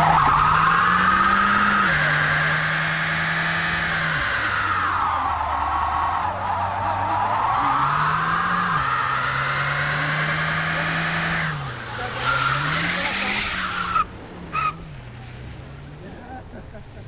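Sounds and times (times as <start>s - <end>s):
tyres squealing: 0.0s - 14.9s
car engine revving: 0.0s - 17.0s.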